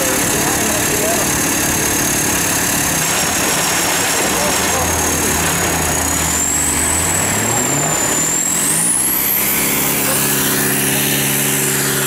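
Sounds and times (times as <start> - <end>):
off-road vehicle engines revving: 0.0 - 12.0
thin high whine: 0.0 - 12.0.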